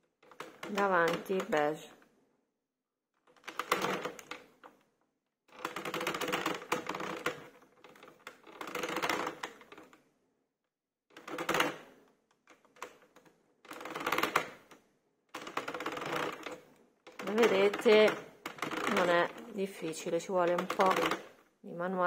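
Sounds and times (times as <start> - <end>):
knitting machine needles clattering: 0.0 - 2.0, 3.2 - 4.9, 5.5 - 10.0, 11.1 - 22.0.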